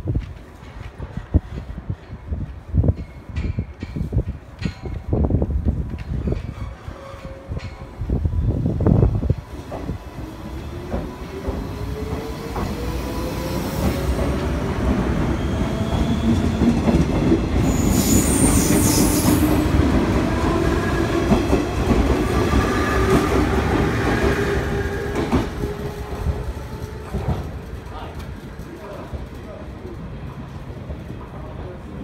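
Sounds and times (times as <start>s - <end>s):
wheels rumbling and clattering on rails: 0.0s - 32.0s.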